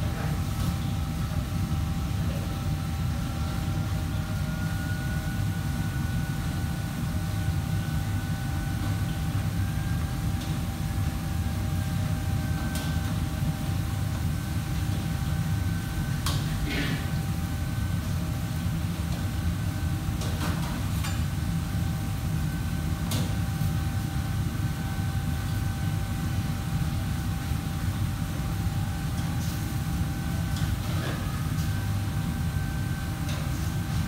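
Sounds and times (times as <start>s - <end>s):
kitchen machinery humming: 0.0s - 34.0s.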